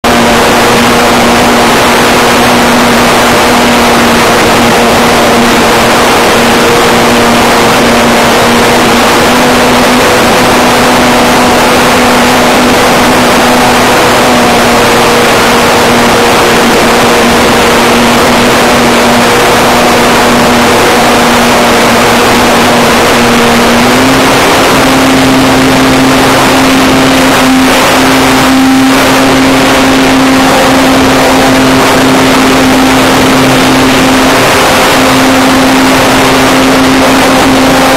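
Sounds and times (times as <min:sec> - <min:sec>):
model plane motor humming: 0:00.0 - 0:37.9.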